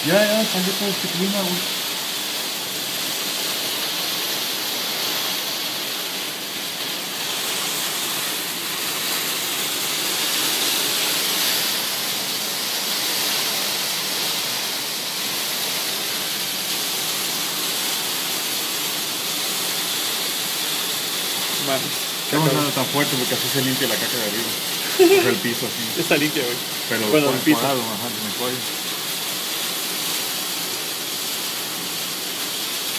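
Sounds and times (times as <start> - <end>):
heavy rain on metal roofs: 0.0 - 32.9
water pouring off roof edges: 0.0 - 32.9.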